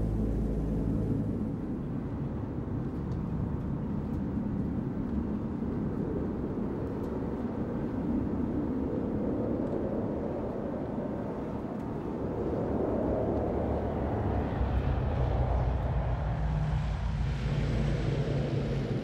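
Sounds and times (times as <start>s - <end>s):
low engine rumble: 0.0s - 7.9s, 11.4s - 19.0s.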